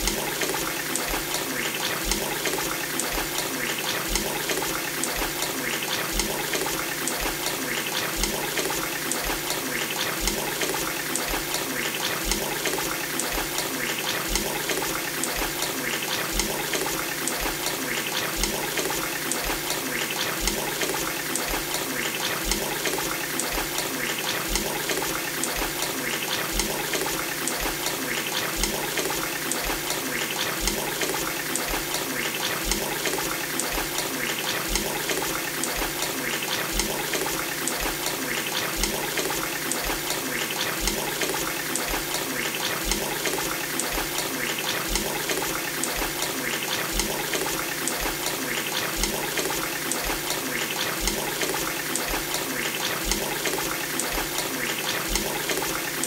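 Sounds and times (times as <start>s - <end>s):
tap water pouring into bowl: 0.0s - 56.0s.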